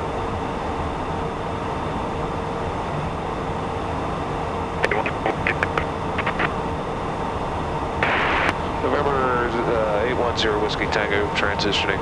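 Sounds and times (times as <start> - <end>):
airflow and jet engine hum: 0.0 - 12.0.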